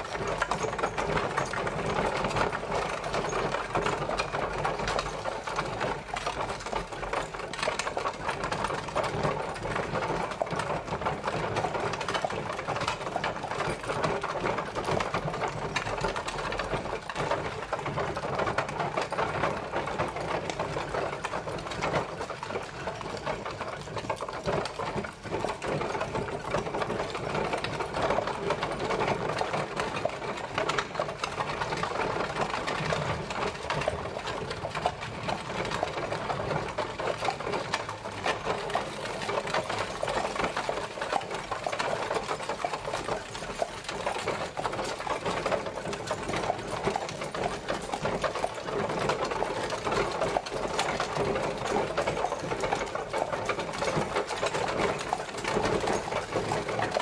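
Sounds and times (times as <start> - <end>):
carriage rattling and clattering: 0.0 - 57.0.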